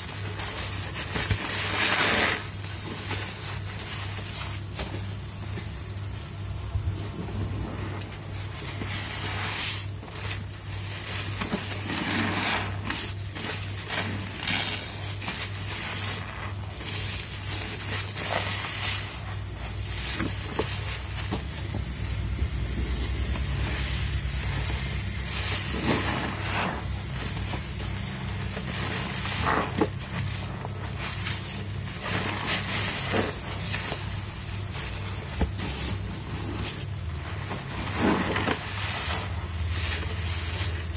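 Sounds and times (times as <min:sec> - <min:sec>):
low steady hum: 0:00.0 - 0:40.9
sponges squelching in suds: 0:00.0 - 0:40.9.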